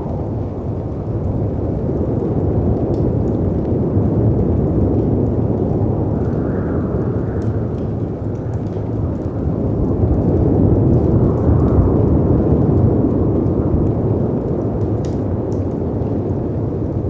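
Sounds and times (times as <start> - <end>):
faint wood fire crackles: 0.0 - 17.0
wind and surf rumble: 0.0 - 17.0.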